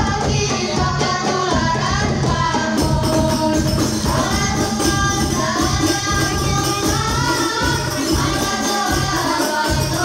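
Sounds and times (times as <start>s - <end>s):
bass drum: 0.0s - 10.0s
frame drums with jingles: 0.0s - 10.0s.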